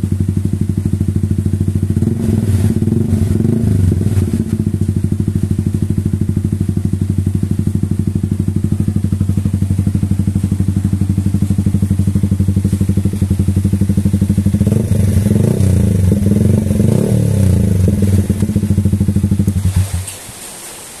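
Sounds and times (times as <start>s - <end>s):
motorcycle engine idling and revving: 0.0s - 20.2s.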